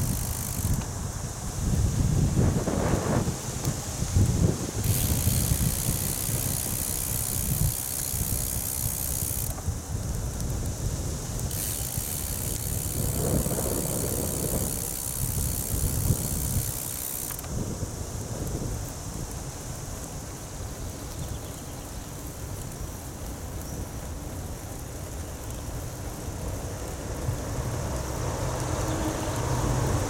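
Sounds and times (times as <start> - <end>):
bicycle freewheel ticking: 0.0 - 30.0
wind buffeting microphone: 0.0 - 30.0.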